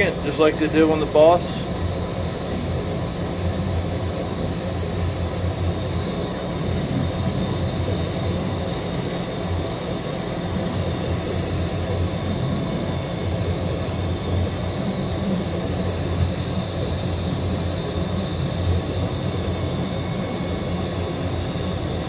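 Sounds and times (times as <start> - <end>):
laser cutter machine hum: 0.0 - 22.0
stepper motors high whine: 0.0 - 22.0.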